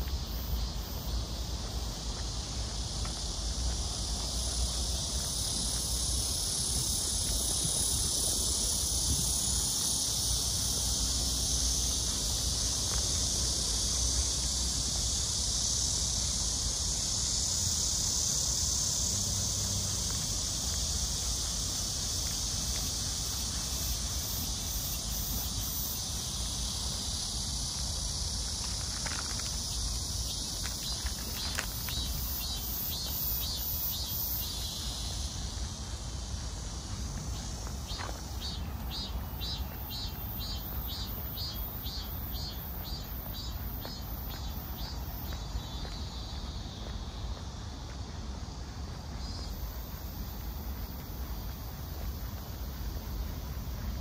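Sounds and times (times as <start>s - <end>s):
high-pitched hiss: 0.0s - 54.0s.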